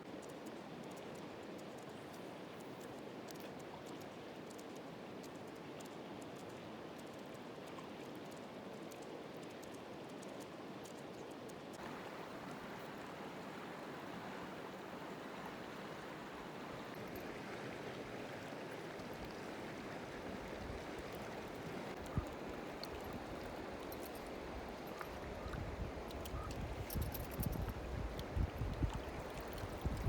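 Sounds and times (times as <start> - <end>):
flowing stream water: 0.7 - 30.0.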